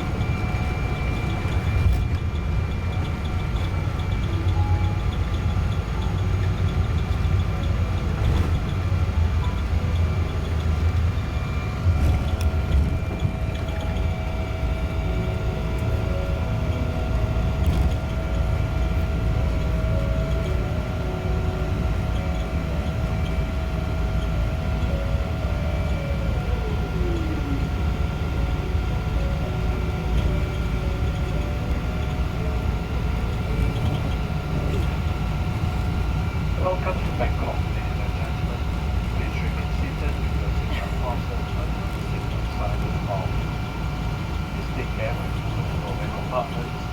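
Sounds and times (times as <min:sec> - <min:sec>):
engine and wheel rumble: 0:00.0 - 0:46.9.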